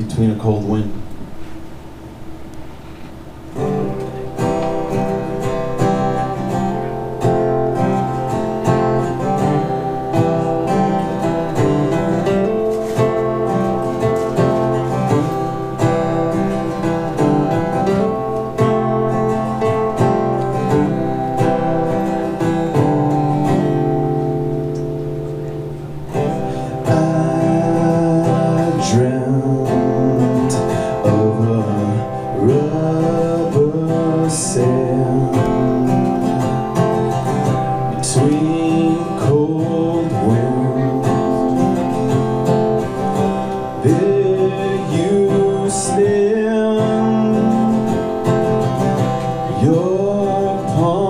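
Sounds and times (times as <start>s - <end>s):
acoustic guitar strumming chords: 0.0s - 51.0s.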